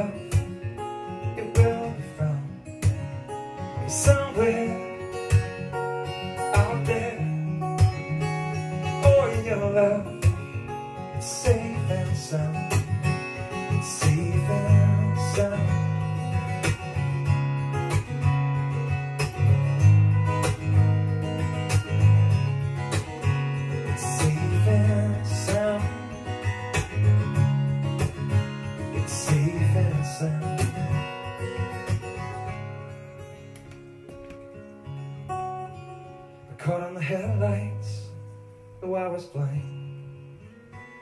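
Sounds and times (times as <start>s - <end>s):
strummed acoustic guitar: 0.0s - 41.0s.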